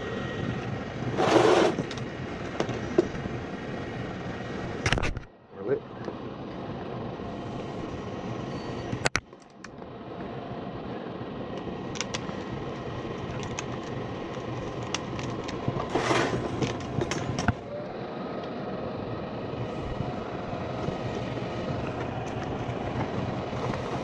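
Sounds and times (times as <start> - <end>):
furnace fan and burners rushing: 0.0 - 24.0.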